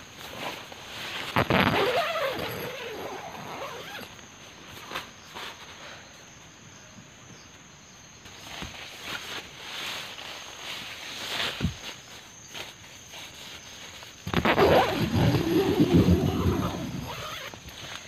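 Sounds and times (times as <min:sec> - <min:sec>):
tent fabric rustling: 0:00.0 - 0:06.1, 0:08.2 - 0:18.0
high insect drone: 0:00.0 - 0:18.0.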